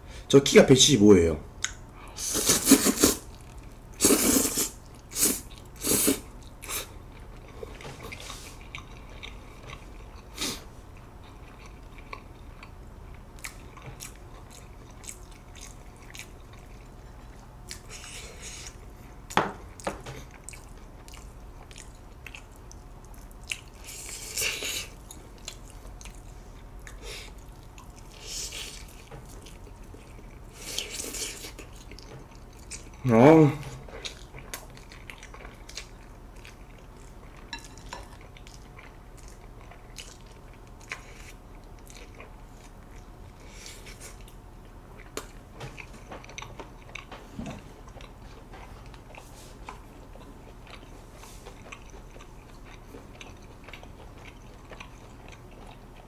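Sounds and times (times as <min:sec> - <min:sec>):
chewing: 0:03.0 - 0:04.1, 0:04.7 - 0:33.0, 0:33.6 - 0:56.0.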